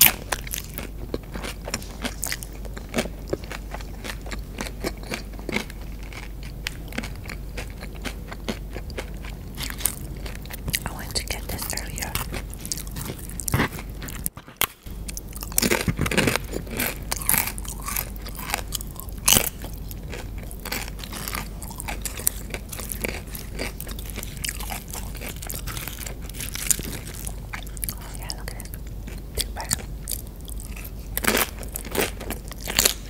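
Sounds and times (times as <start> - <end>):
crunching tortilla chips: 0.0 - 33.0
wet chewing: 0.0 - 33.0.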